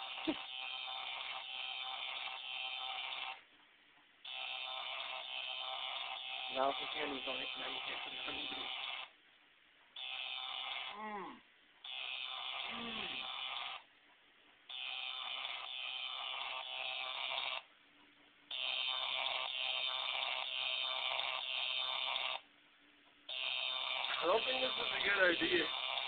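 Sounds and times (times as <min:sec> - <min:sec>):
electronic buzzing from small speaker: 0:00.0 - 0:03.4, 0:04.2 - 0:09.2, 0:10.0 - 0:13.9, 0:14.7 - 0:17.7, 0:18.5 - 0:22.5, 0:23.3 - 0:26.0.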